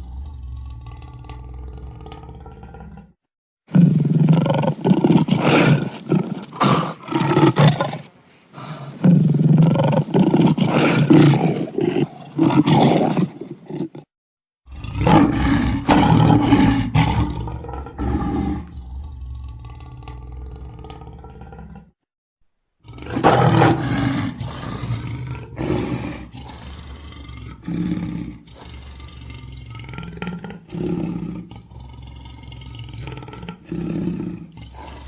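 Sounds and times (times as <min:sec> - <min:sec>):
big cat roaring: 0:00.0 - 0:08.0, 0:08.6 - 0:22.0, 0:22.8 - 0:35.0.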